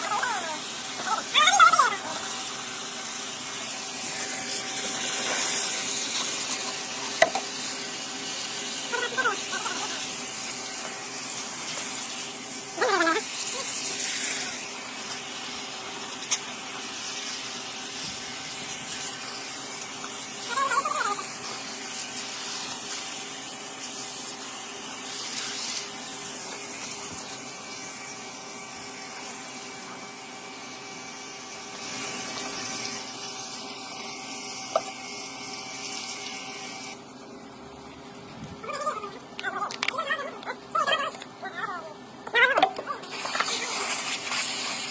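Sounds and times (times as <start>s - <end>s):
water spraying: 0.0s - 29.9s, 31.0s - 37.0s, 42.8s - 44.9s.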